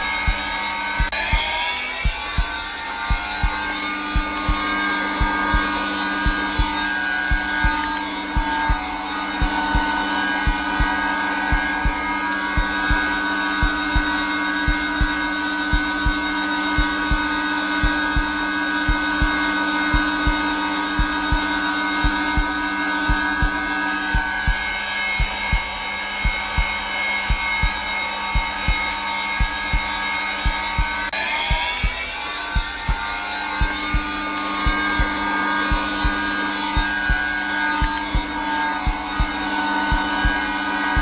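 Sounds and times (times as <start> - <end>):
vacuum cleaner motor hum: 0.0 - 31.3, 32.5 - 41.0
heartbeat thumps: 0.0 - 41.0.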